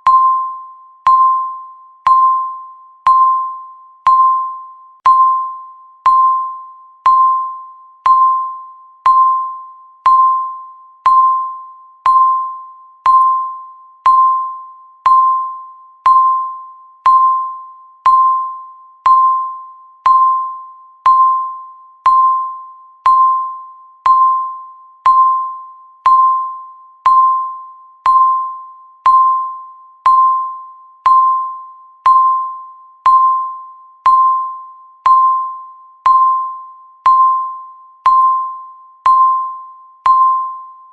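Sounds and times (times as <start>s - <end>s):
electronic timer beeps: 0.0s - 40.9s.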